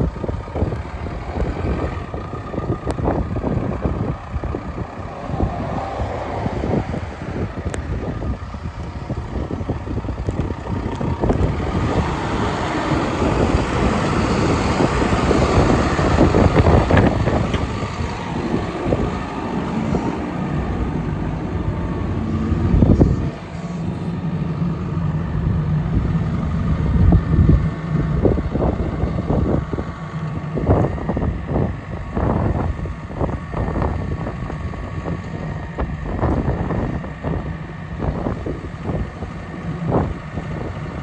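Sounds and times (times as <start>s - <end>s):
diesel engine running: 0.0s - 41.0s
wind buffeting microphone: 0.0s - 41.0s.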